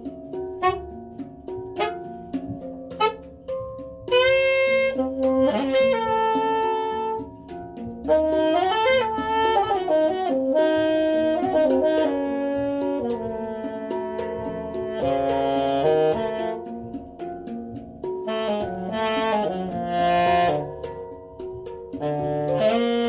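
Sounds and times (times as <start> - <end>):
hang drum notes: 0.0 - 23.0
jazz saxophone improvising: 0.6 - 17.2, 18.2 - 23.0.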